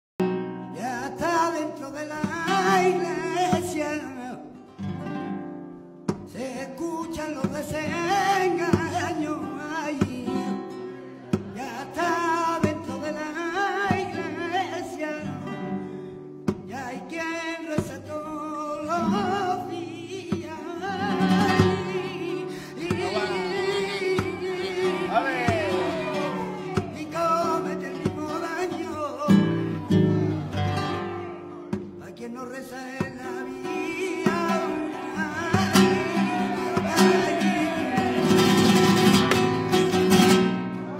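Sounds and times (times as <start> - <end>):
man singing flamenco: 0.2 - 5.4, 6.0 - 40.9
flamenco guitar: 0.2 - 40.9.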